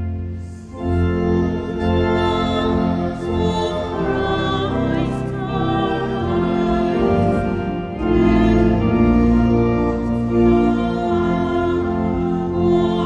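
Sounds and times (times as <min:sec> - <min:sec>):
organ: 0:00.0 - 0:13.0
voices singing a hymn: 0:00.0 - 0:13.0.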